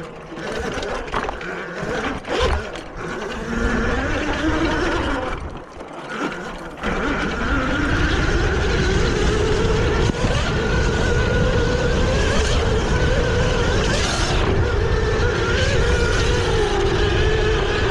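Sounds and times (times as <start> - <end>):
dirt bike engine revving: 0.0 - 17.9.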